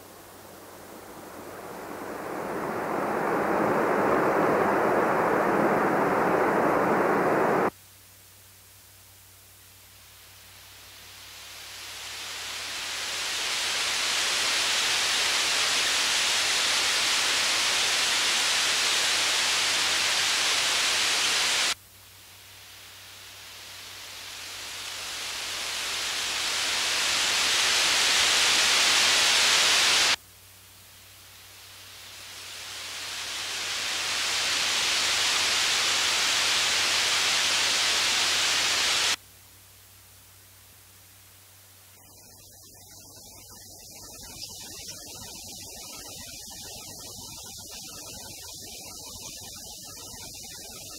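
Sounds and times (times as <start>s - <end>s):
high test hiss: 0.0s - 7.8s, 8.9s - 50.9s
faint steady hum: 0.0s - 50.9s.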